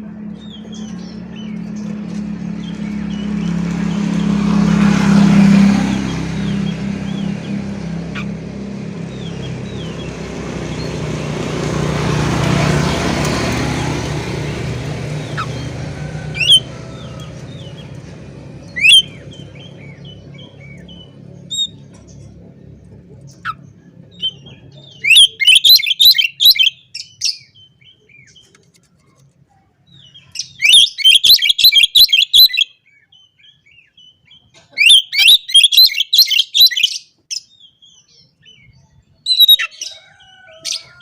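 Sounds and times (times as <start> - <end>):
motor vehicles passing: 0.0 - 41.0
bird chirping: 0.1 - 28.7, 29.9 - 41.0.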